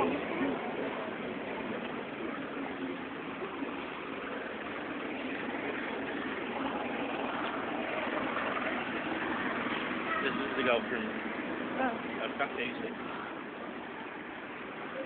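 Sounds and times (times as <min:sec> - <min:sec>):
road noise: 0:00.0 - 0:15.0
vehicle engine: 0:00.0 - 0:15.0.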